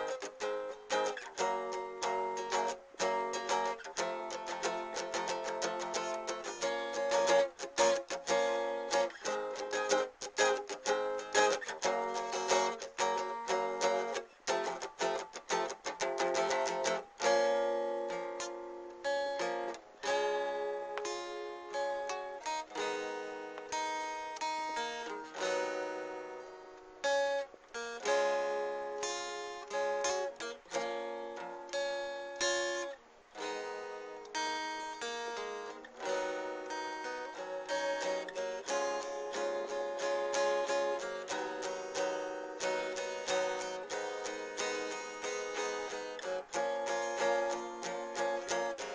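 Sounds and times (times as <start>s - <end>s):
strummed guitar chords: 0.0s - 48.9s.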